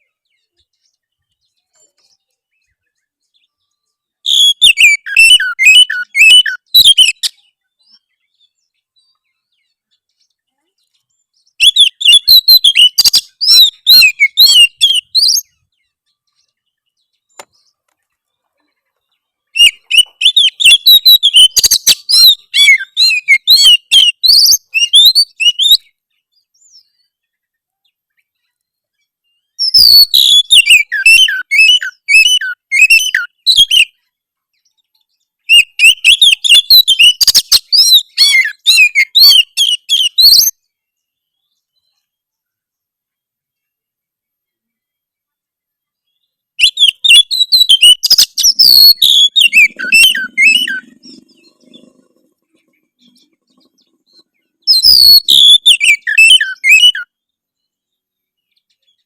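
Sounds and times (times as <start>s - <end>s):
bird singing harsh chirps: 0.0s - 27.5s, 28.2s - 42.2s, 46.0s - 59.0s.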